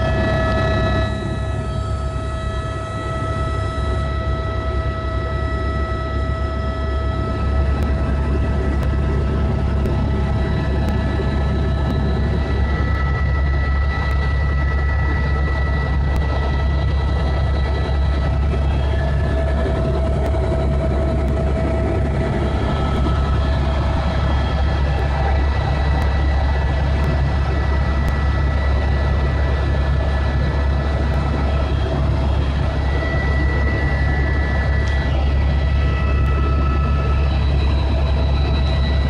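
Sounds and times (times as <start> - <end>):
helicopter rotor drone: 0.0 - 39.0
turbine whine: 0.0 - 39.0.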